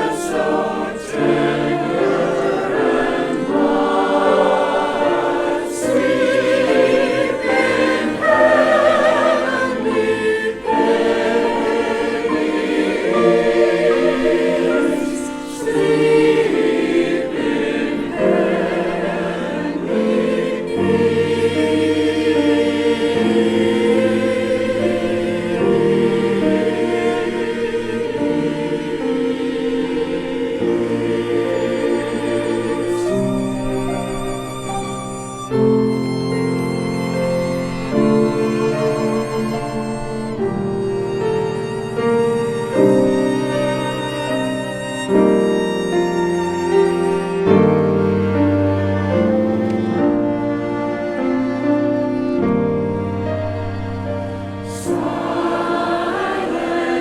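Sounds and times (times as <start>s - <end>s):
church choir singing: 0.0s - 57.0s
orchestral accompaniment: 0.0s - 57.0s.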